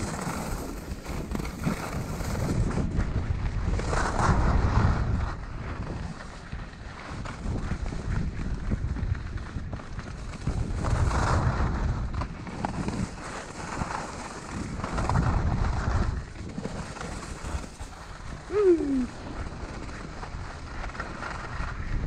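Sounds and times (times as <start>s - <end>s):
skis scraping over hard snow: 0.0s - 22.0s
wind buffeting microphone: 0.0s - 22.0s.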